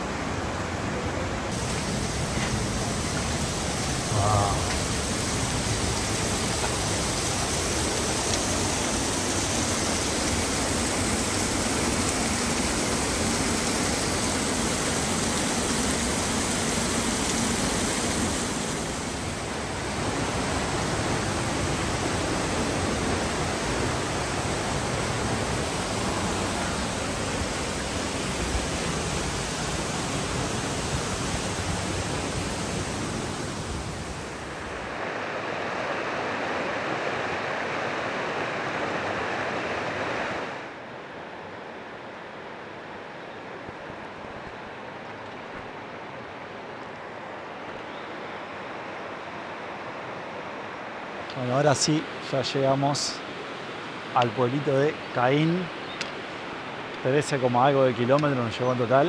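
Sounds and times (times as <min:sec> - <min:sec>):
waterfall rushing: 0:00.0 - 0:40.9, 0:48.4 - 0:59.0.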